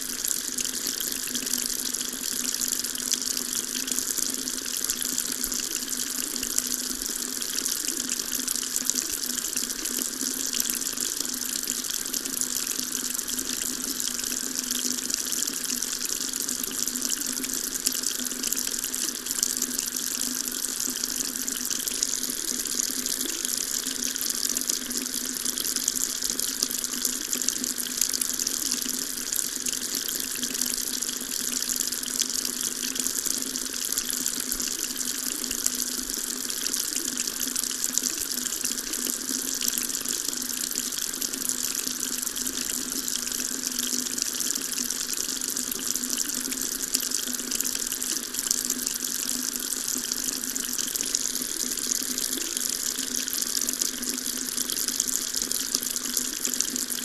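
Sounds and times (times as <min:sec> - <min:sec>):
water tap running: 0:00.0 - 0:57.0.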